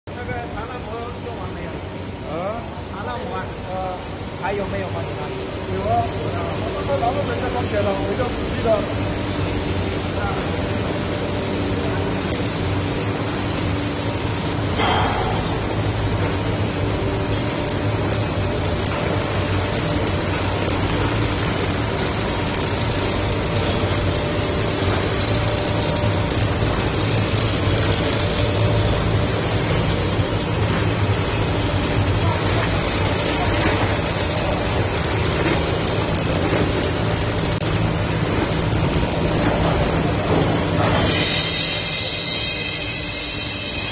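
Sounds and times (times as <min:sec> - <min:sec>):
motors and rollers humming: 0:00.1 - 0:43.9.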